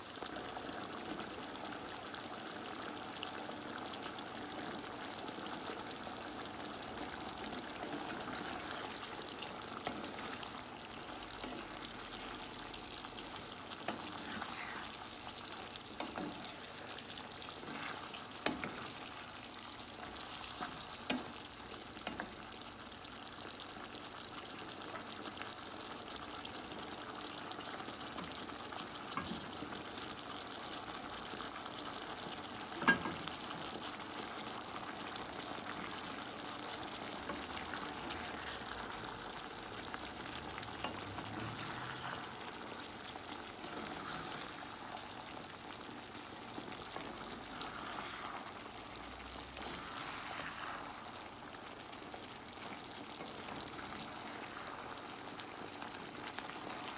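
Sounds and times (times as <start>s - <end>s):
stew sizzling in a pan: 0.0s - 56.9s.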